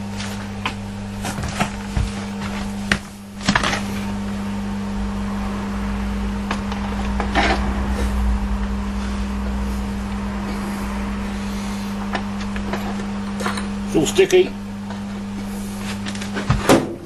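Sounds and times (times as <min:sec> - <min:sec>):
steady electric hum: 0:00.0 - 0:17.0.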